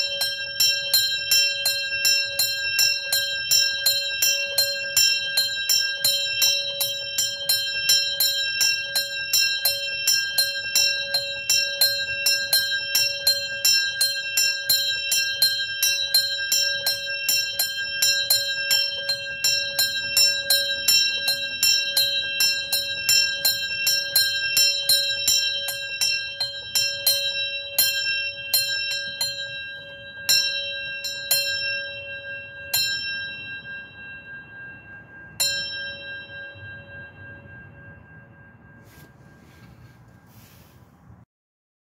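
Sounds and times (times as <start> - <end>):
small bell ringing: 0.0 - 40.3.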